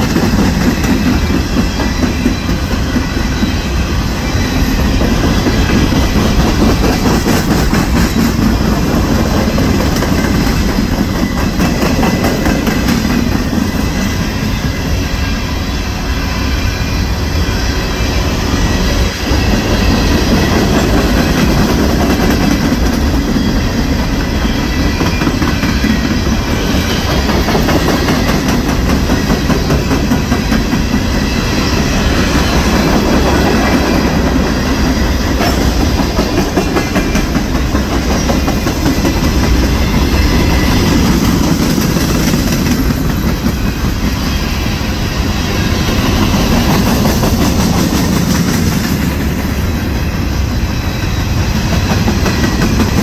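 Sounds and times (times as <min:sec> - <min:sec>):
train wheels clicking over rail joints: 0:00.0 - 0:15.3, 0:18.4 - 0:53.0
freight train rumbling past: 0:00.0 - 0:53.0.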